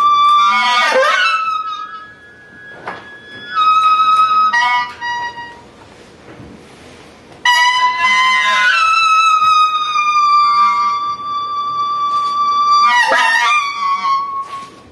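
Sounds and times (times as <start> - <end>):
horn-like held notes: 0.0 - 5.8, 7.4 - 14.9.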